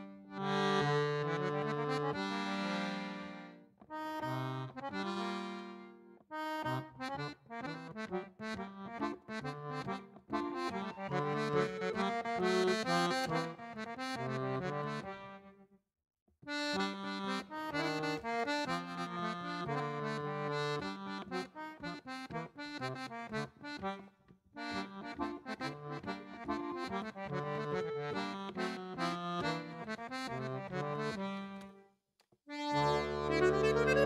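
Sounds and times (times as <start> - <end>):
accordion dance tune: 0.0 - 15.5, 16.5 - 31.8, 32.5 - 34.0.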